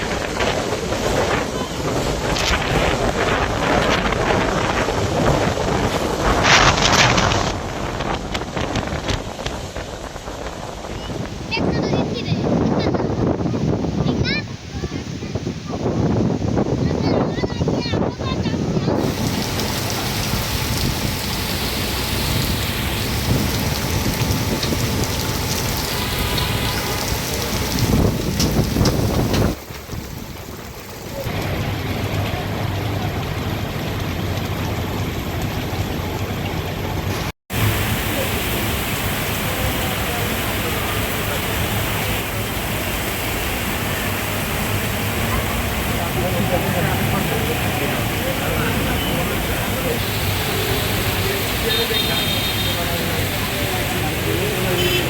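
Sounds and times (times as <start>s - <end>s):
wind buffeting microphone: 0.0s - 51.6s
heavy rain pouring: 0.0s - 55.0s
rushing floodwater: 0.0s - 55.0s.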